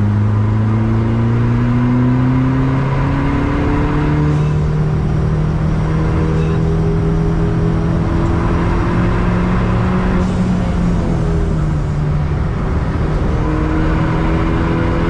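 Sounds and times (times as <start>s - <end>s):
car engine pulling hard: 0.0s - 15.0s
road and tyre noise: 0.0s - 15.0s.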